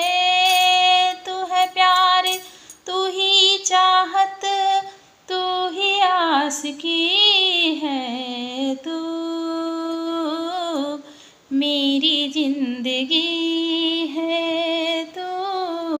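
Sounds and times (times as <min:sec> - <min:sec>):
woman singing wordless melody: 0:00.0 - 0:16.0.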